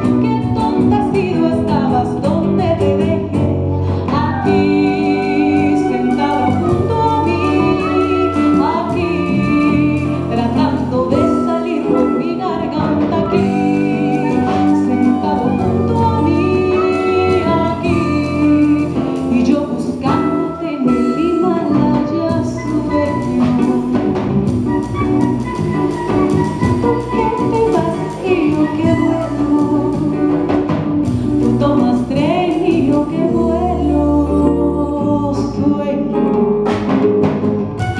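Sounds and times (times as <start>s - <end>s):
woman singing: 0.0s - 36.9s
acoustic guitar: 0.0s - 37.9s
drum kit: 0.0s - 37.9s
electric bass: 0.0s - 37.9s
saxophone: 4.1s - 34.9s, 37.6s - 37.9s.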